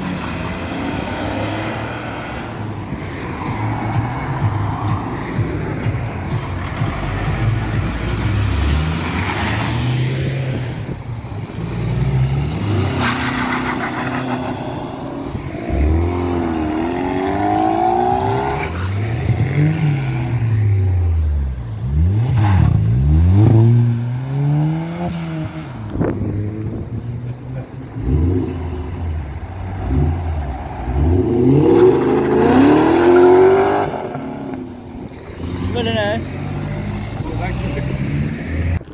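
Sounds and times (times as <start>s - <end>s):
cars driving past revving: 0.0s - 38.9s.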